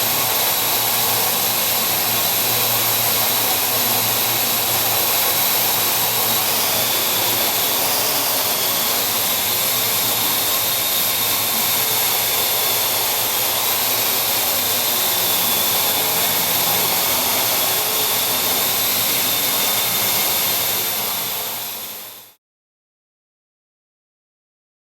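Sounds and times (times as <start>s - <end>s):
drone propellers whirring: 0.0s - 22.3s.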